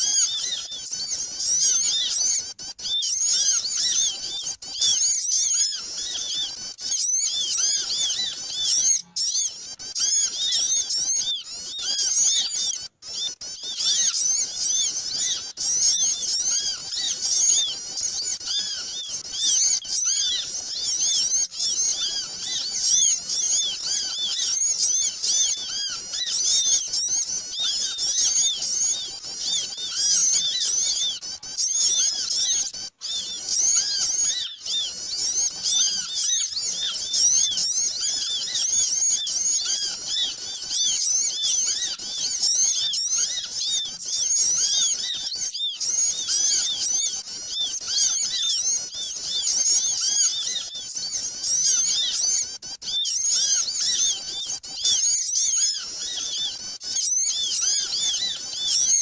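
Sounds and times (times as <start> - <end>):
chorus of small birds chirping: 0.0 - 59.0.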